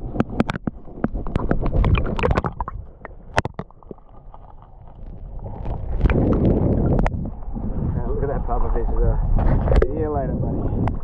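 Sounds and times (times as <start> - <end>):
underwater clicks and knocks: 0.0 - 8.0, 9.4 - 10.0, 10.8 - 11.0
water sloshing rush: 0.0 - 9.8.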